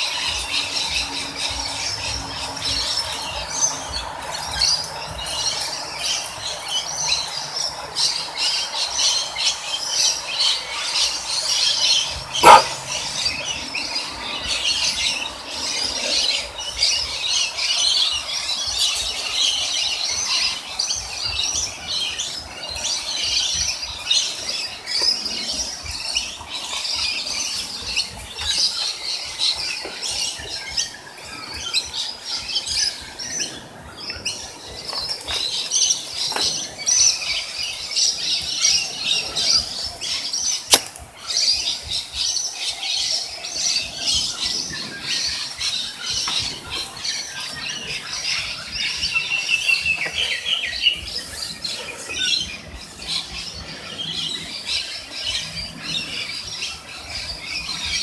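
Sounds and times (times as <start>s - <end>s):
lorikeets chattering and screeching: 0.0s - 58.0s.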